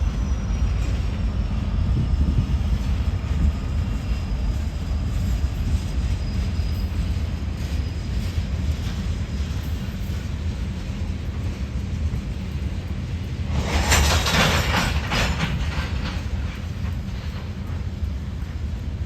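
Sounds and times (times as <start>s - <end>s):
clattering rail noise: 0.0s - 19.0s
diesel locomotive rumbling: 0.0s - 19.0s.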